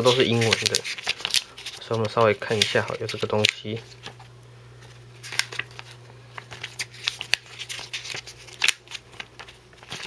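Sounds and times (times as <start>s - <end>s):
paper rustling: 0.0s - 10.0s
steady low hum: 0.0s - 10.0s.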